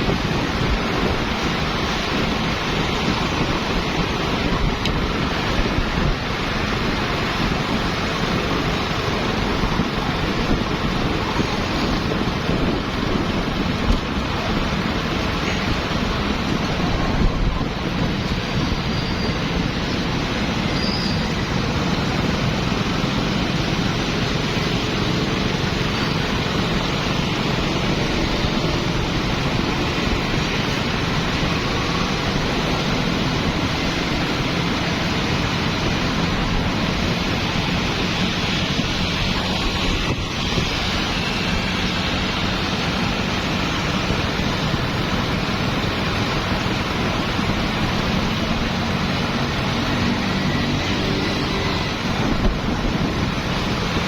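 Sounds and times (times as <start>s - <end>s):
street traffic engines: 0.0s - 54.0s.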